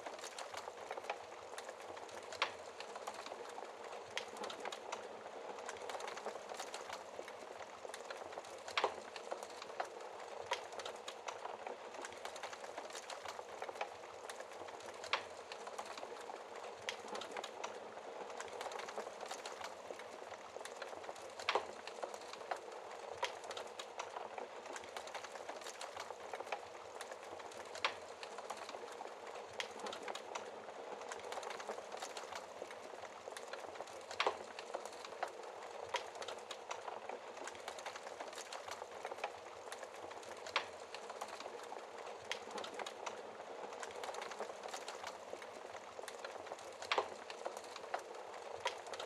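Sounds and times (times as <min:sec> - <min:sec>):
wood fire crackling: 0:00.0 - 0:49.0.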